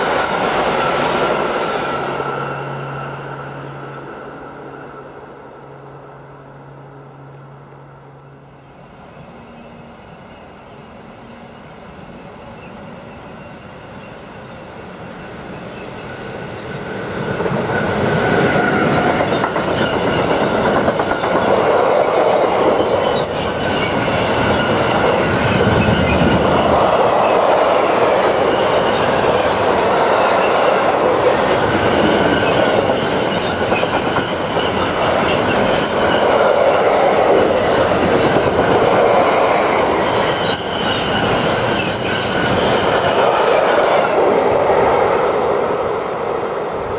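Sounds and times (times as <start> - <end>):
train wheels rumbling on rail: 0.0 - 5.9, 8.9 - 46.9.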